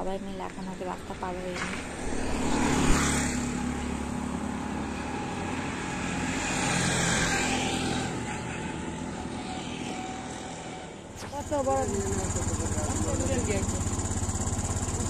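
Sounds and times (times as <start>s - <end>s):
traffic passing on road: 0.0s - 15.0s.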